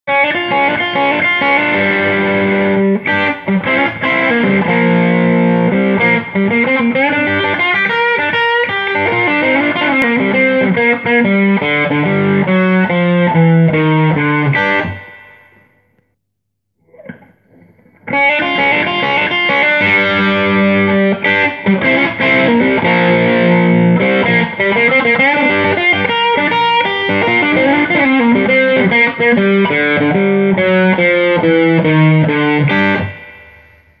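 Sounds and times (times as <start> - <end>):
overdriven electric guitar riffing: 0.0 - 15.8, 16.9 - 34.0.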